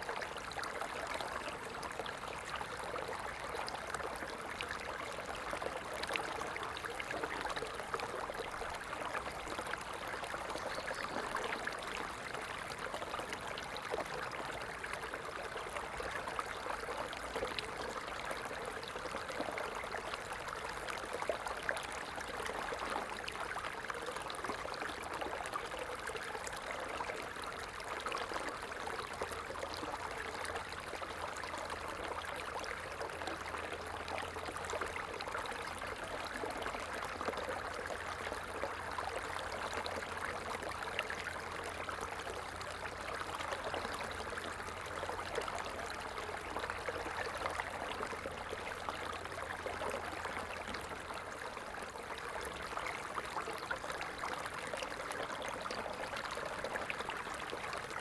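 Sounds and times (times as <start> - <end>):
stream babbling and trickling: 0.0 - 58.0.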